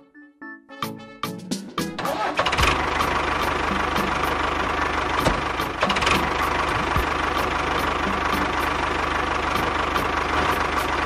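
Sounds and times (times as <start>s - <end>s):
tractor engine idling with knocking: 2.0s - 11.0s.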